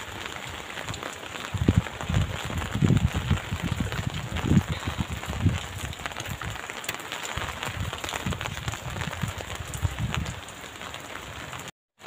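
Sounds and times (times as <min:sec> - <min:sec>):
rain on concrete: 0:00.0 - 0:11.7
sharp raindrop hits: 0:00.0 - 0:11.7.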